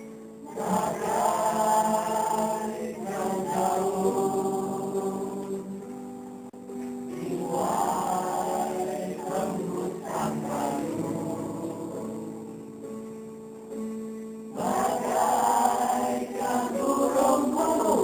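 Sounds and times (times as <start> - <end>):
mixed choir singing: 0.0 - 6.0, 7.1 - 12.8, 14.5 - 18.0.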